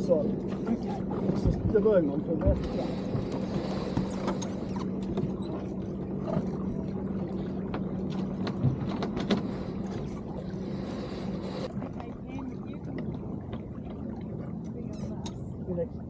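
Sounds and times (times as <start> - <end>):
steady low hum: 0.0 - 16.0
water washing along hull: 0.0 - 16.0.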